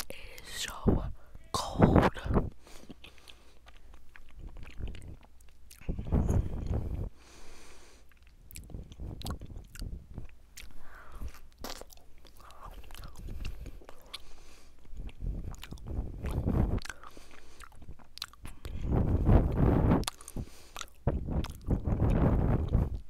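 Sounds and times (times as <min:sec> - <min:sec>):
sharp mouth clicks: 0:02.2 - 0:06.9, 0:08.1 - 0:23.0
person chewing and biting: 0:02.6 - 0:07.1, 0:08.0 - 0:23.0.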